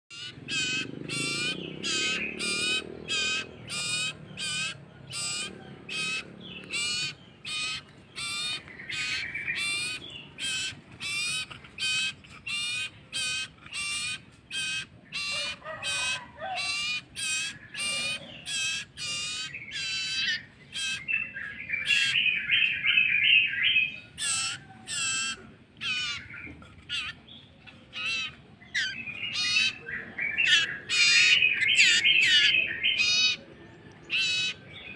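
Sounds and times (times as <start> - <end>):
chick begging calls: 0.1 - 34.9.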